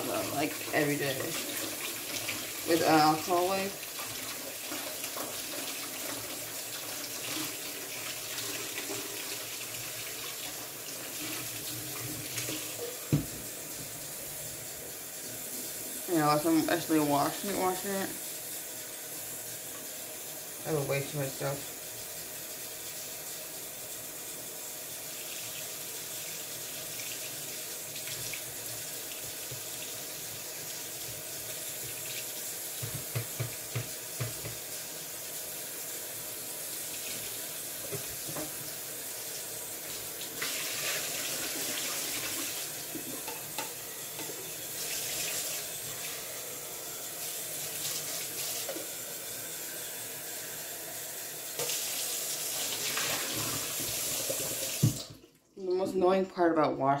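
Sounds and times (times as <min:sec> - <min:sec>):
water running from a tap: 0:00.0 - 0:55.6.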